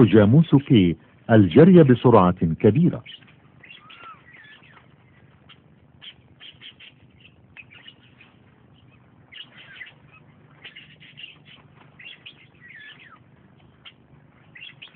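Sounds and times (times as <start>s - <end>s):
birds chirping: 0.0s - 14.9s
faint low steady hum: 0.0s - 14.9s.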